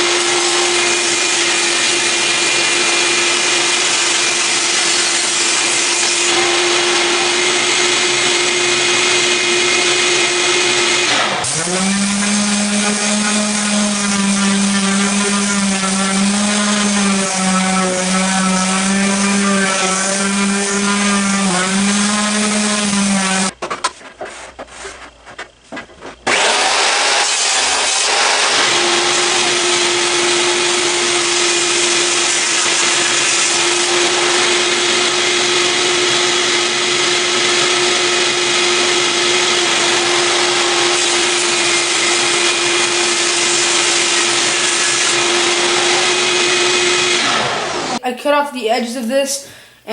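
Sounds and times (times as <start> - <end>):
power saw cutting wood: 0.0 - 23.5, 26.1 - 48.0.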